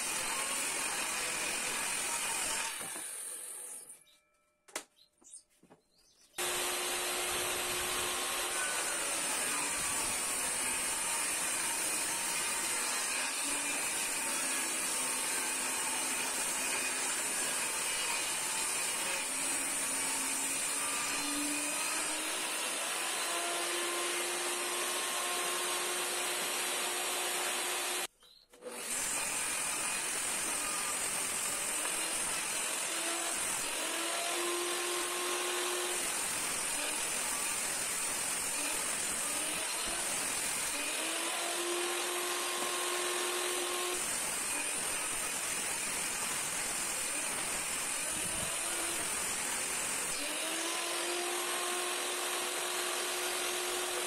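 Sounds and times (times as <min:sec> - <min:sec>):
table saw cutting wood: 0:00.0 - 0:04.1, 0:06.4 - 0:54.0.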